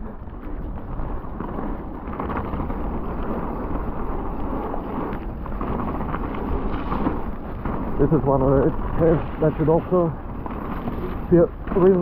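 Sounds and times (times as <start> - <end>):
mountain bike rumbling and rattling: 0.0 - 12.0
wind buffeting microphone: 0.0 - 12.0.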